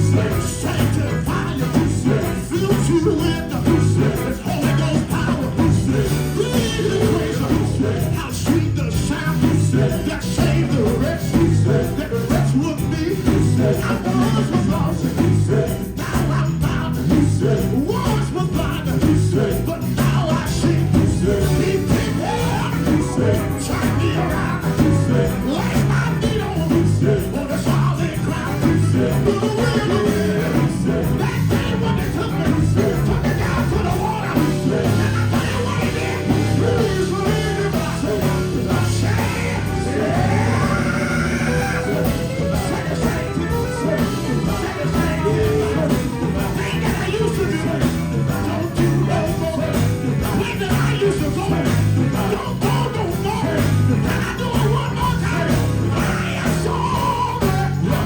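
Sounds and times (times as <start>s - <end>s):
electric guitar: 0.0s - 58.0s
live gospel band music: 0.0s - 58.0s
person singing: 0.0s - 58.0s.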